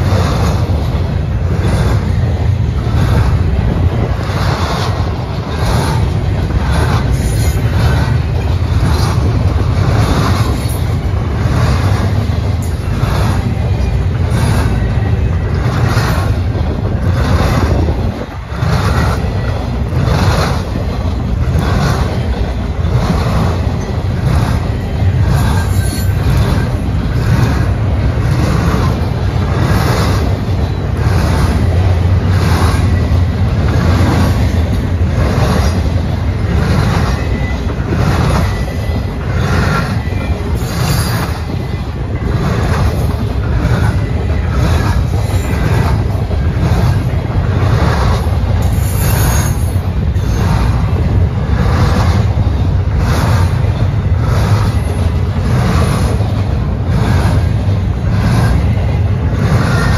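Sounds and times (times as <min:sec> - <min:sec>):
train cars rumbling past: 0:00.0 - 0:59.9
wheels clacking over rails: 0:00.0 - 0:59.9.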